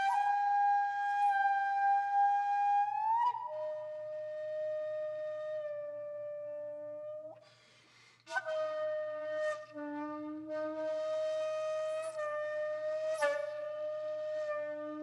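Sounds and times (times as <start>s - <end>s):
wind instrument holding long notes: 0.0s - 7.4s, 8.3s - 15.0s.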